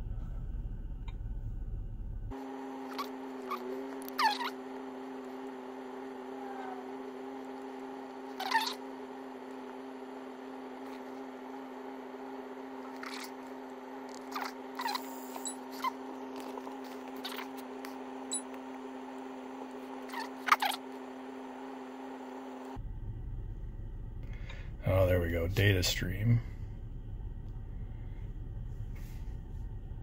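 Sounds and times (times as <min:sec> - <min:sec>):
steady cabin hum: 0:00.0 - 0:30.0.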